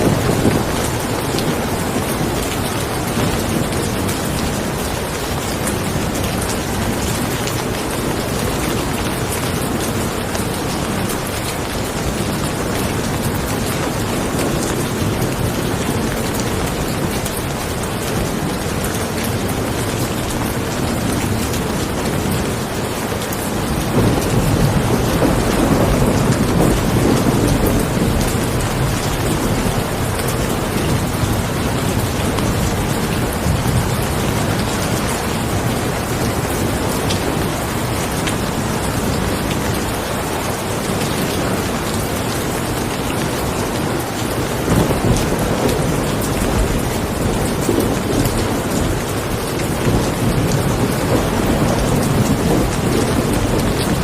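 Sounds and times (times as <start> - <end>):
heavy rain falling: 0.0 - 54.0
thunder rumble: 0.0 - 54.0.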